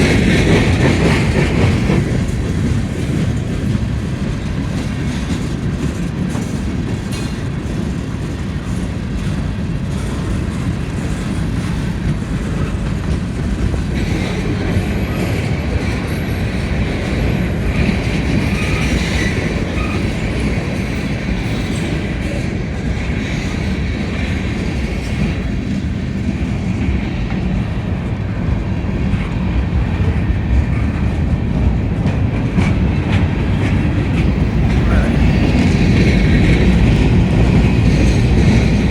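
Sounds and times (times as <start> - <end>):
freight train rumbling: 0.0 - 38.9
wheels clicking over rail joints: 0.0 - 38.9.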